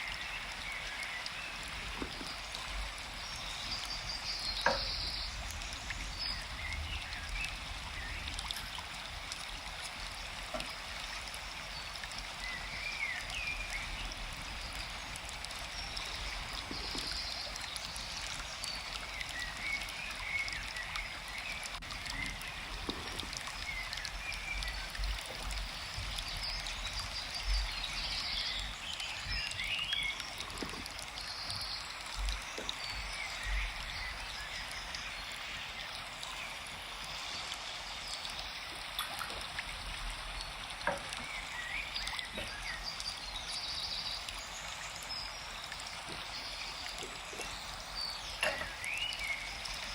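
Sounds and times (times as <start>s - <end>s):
birds chirping: 0.0s - 8.6s, 11.7s - 49.9s
stream running: 0.0s - 49.9s.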